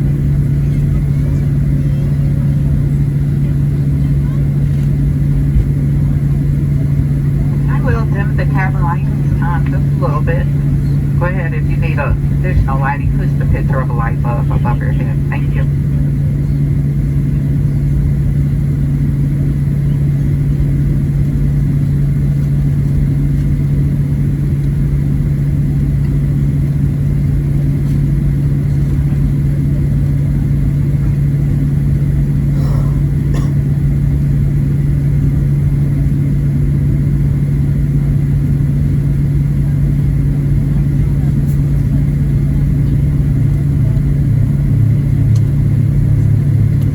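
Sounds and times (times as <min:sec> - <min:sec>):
aircraft cabin engine drone: 0:00.0 - 0:46.9.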